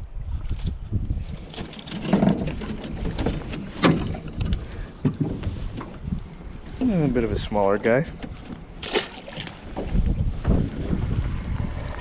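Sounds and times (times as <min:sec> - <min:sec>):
knocks and clatter in aluminum boat: 0:01.2 - 0:11.2.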